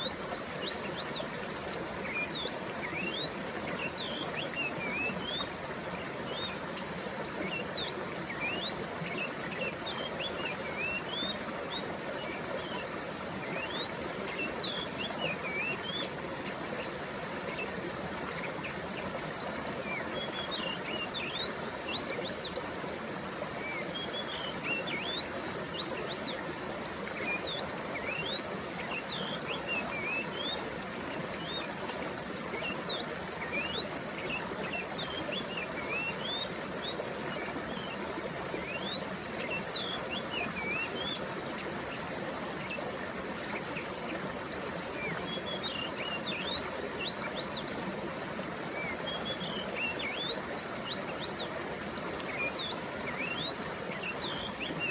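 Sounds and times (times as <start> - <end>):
water flowing: 0.0 - 54.9.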